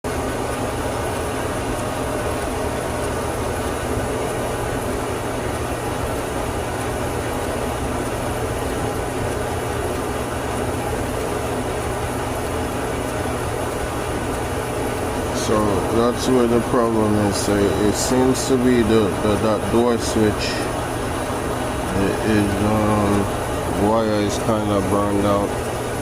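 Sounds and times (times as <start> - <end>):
clothes dryer running: 0.0 - 26.0.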